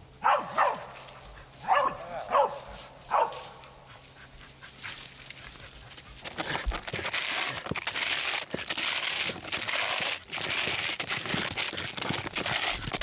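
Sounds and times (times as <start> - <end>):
bark crackling and crunching: 0.2 - 13.0
dog clawing and chewing wood: 1.6 - 13.0.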